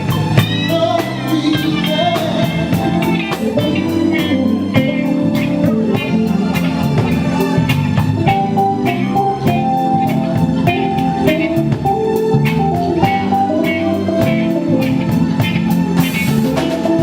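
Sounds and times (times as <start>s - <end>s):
electric guitar leading: 0.0s - 17.0s
live band playing soul-blues: 0.0s - 17.0s.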